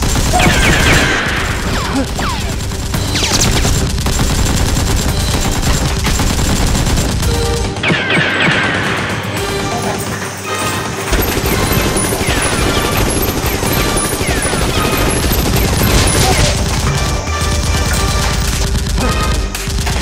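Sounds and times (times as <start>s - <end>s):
rapid-fire gunfire: 0.0s - 9.7s, 11.1s - 20.0s
background music: 0.0s - 20.0s.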